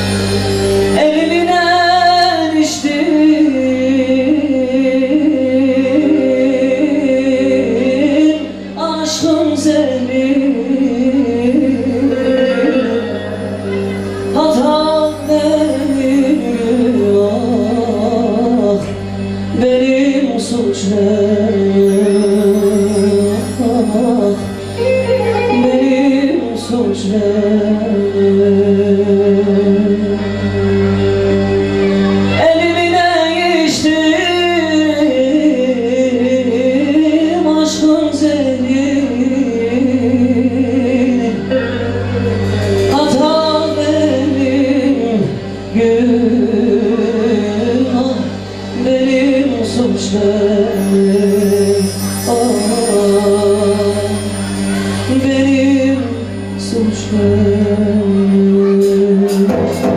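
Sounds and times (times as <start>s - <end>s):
electronic keyboard backing: 0.0s - 59.9s
man singing into microphone: 0.9s - 31.4s, 32.2s - 59.9s.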